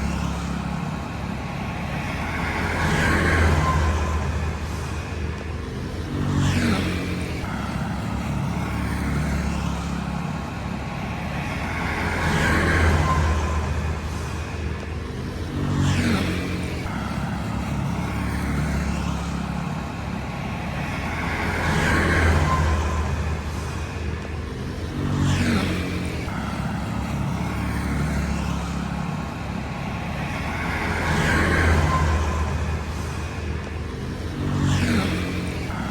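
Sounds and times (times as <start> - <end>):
vehicle engines running: 0.0 - 35.9
vehicles passing: 0.0 - 35.9.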